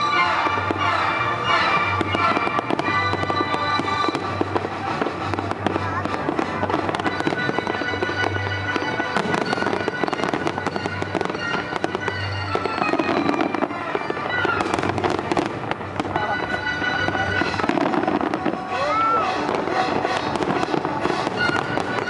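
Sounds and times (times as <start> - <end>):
fireworks bursting and crackling: 0.0 - 22.0
music with long held notes: 0.0 - 22.0.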